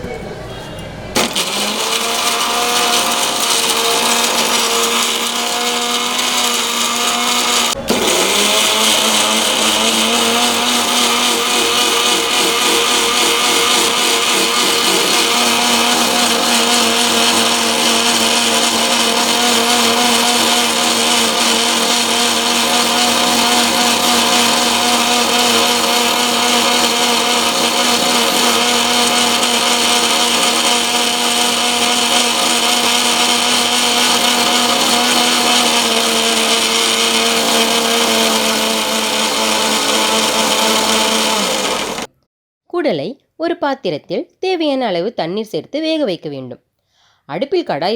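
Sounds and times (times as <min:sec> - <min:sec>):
electric mixer grinder running: 0:01.2 - 0:42.1.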